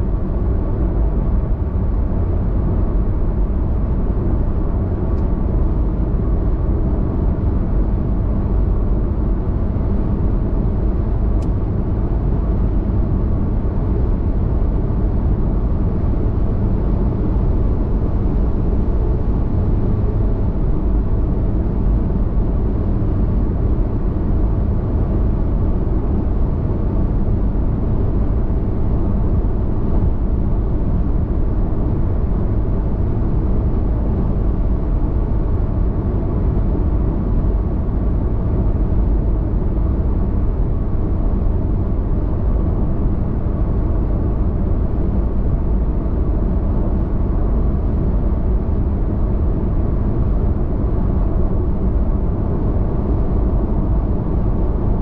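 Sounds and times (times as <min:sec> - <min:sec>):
car interior road rumble: 0:00.1 - 0:55.0.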